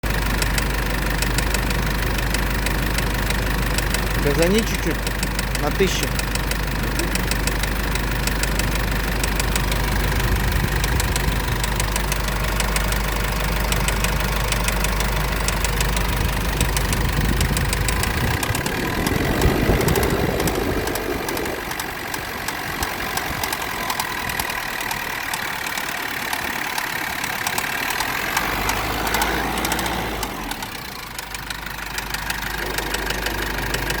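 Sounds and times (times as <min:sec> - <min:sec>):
engine running with rhythmic knock: 0:00.0 - 0:34.0.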